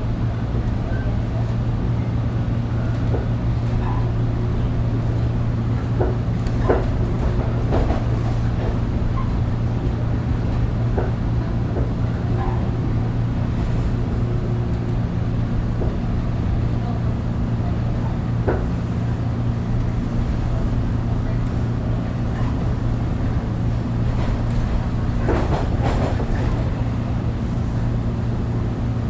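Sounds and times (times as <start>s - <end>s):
subway car hum and rumble: 0.0s - 29.0s.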